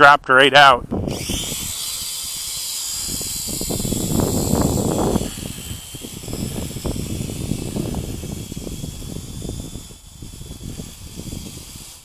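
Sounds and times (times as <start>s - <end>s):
wind buffeting microphone: 0.8s - 12.0s
quadcopter motors whining: 0.9s - 12.0s.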